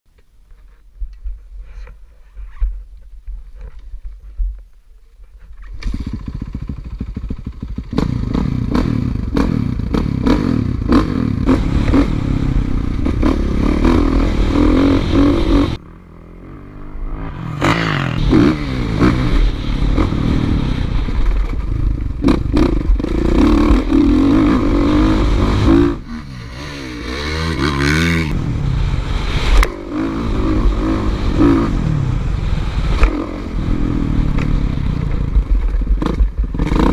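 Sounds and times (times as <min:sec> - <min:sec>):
dirt bike engine revving: 0:05.8 - 0:36.9.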